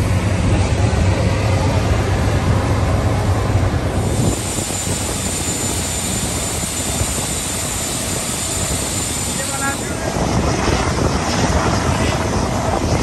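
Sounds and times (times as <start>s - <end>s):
aircraft engine rush: 0.0s - 13.0s
high whine: 0.0s - 13.0s.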